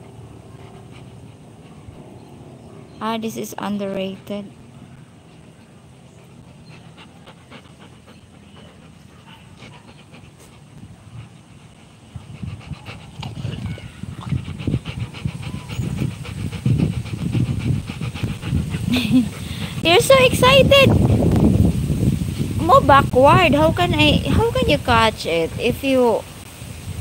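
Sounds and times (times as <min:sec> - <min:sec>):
dog panting: 0:00.0 - 0:04.6, 0:05.2 - 0:26.2.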